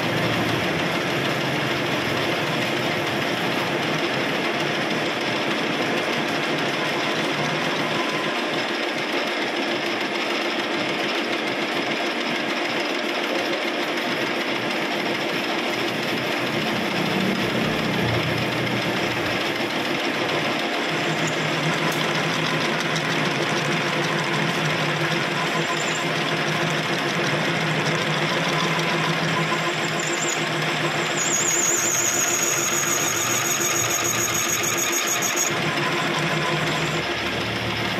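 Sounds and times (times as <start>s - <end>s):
metal lathe running: 0.0s - 37.9s.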